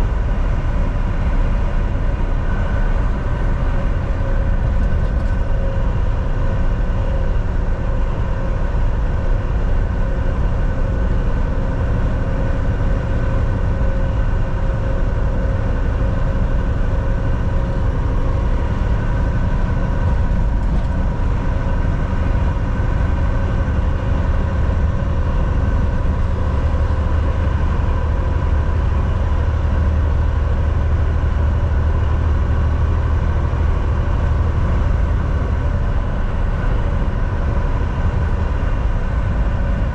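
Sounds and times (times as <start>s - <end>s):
road rumble: 0.0s - 39.9s
truck engine drone: 0.0s - 39.9s.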